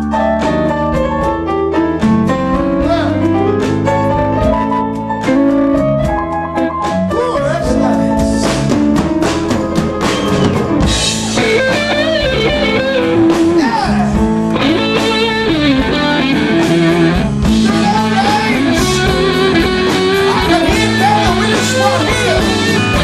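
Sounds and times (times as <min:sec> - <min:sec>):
blues-rock band playing: 0:00.0 - 0:23.0
electric guitar lead with bent notes: 0:00.0 - 0:23.0.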